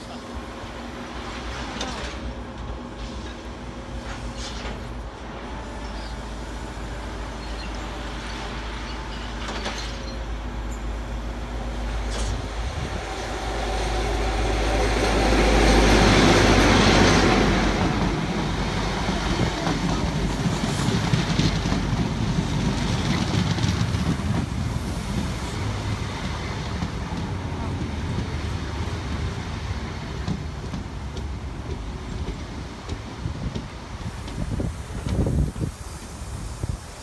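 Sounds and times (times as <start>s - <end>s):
diesel locomotive passing: 0.0s - 37.0s
wheels clickety-clack on rail joints: 0.0s - 37.0s.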